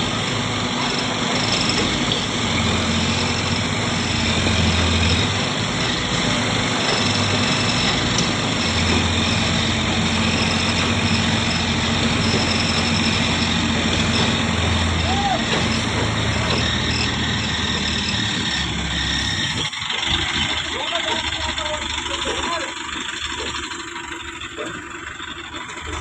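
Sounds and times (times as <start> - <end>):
tractor diesel engine humming: 0.0 - 26.0.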